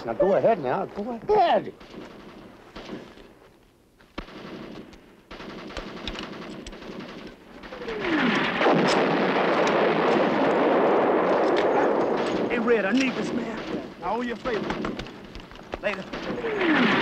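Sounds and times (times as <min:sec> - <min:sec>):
continuous gunfire and blasts: 0:01.5 - 0:03.2, 0:04.2 - 0:17.0
gunshots: 0:01.5 - 0:03.3, 0:04.1 - 0:17.0.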